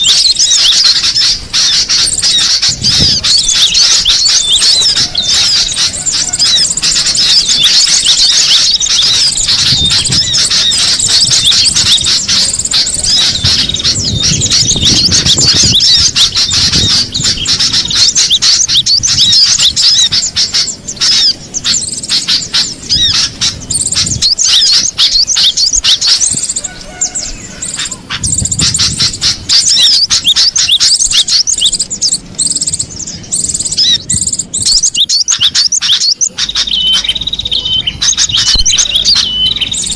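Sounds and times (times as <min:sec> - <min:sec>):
bird calling with high chirps: 0:00.0 - 0:39.9.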